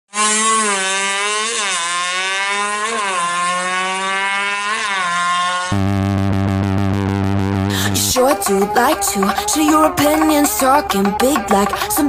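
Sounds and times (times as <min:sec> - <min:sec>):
two-stroke engine revving: 0:00.1 - 0:12.0.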